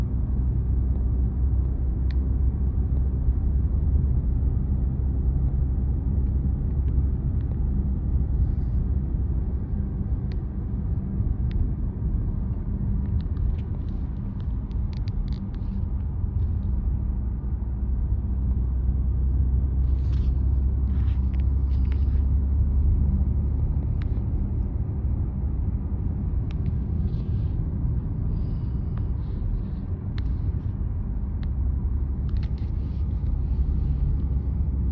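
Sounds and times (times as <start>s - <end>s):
car tyres and engine rumble: 0.0s - 34.9s.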